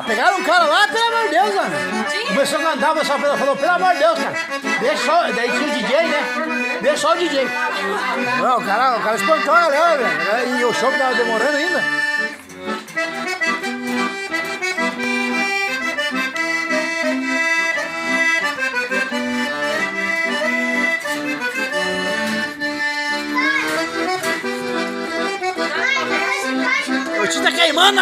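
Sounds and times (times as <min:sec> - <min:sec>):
accordion playing a tune: 0:00.0 - 0:28.0.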